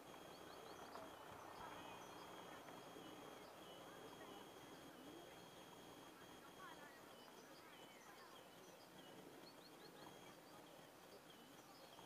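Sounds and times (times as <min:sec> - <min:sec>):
faint high-pitched tone: 0:00.0 - 0:12.0.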